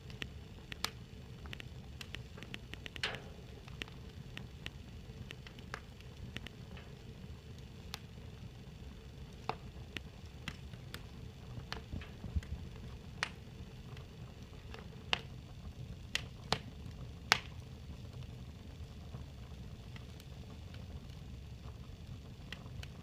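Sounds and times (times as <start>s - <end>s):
fire pops and snaps: 0.0s - 23.0s
low steady rumble: 0.0s - 23.0s.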